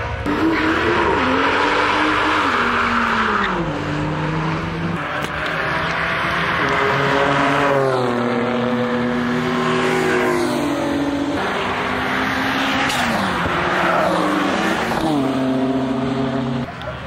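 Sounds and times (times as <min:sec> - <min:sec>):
tyre and exhaust rush: 0:00.0 - 0:17.0.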